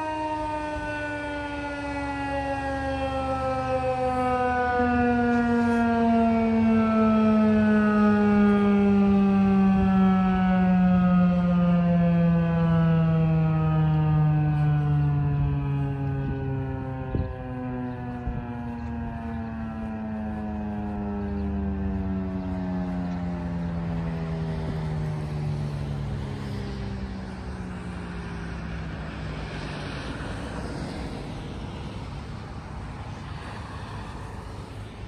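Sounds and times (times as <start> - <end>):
passing car road noise: 0.0 - 35.0
warning siren winding down: 0.0 - 35.0.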